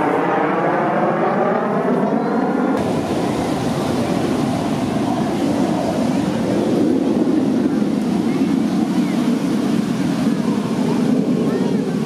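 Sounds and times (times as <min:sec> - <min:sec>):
aircraft roaring past: 0:00.0 - 0:12.0.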